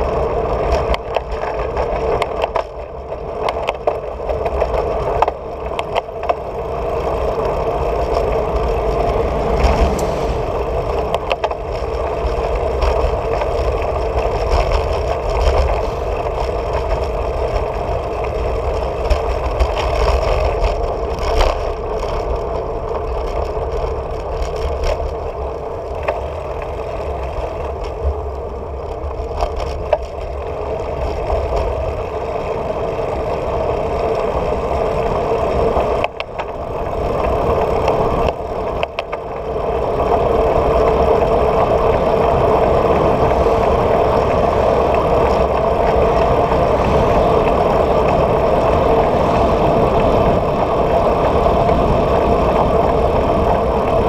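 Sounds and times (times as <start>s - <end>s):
rattling clicks from road vibration: 0.0s - 54.0s
wind rumble on microphone: 0.0s - 54.0s.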